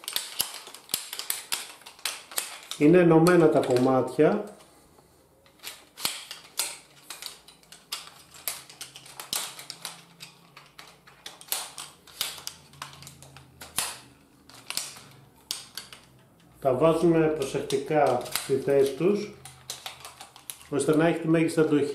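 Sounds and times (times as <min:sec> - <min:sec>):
metal tubes clicking and clattering: 0:00.0 - 0:03.9, 0:05.6 - 0:21.1.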